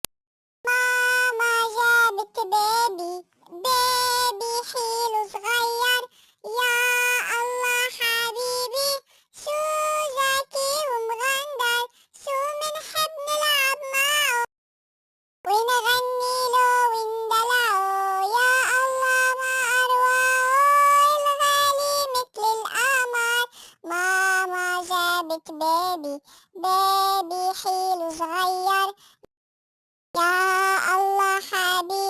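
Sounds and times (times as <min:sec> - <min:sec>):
child singing: 0:00.6 - 0:14.5, 0:15.5 - 0:29.0, 0:30.2 - 0:32.0.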